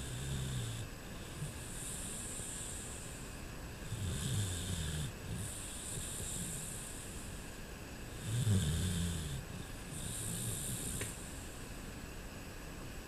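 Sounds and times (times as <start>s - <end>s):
dog snoring: 0.0s - 7.4s, 8.1s - 11.4s.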